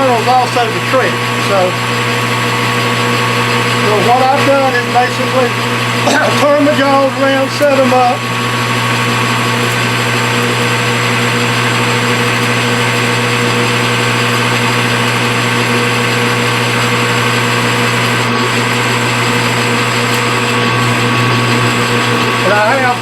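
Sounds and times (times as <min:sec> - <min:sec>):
metal lathe running: 0:00.0 - 0:23.0.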